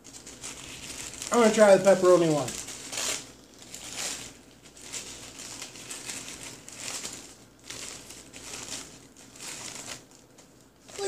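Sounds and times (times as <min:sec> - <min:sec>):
paper wrapper crinkling: 0:00.0 - 0:11.0.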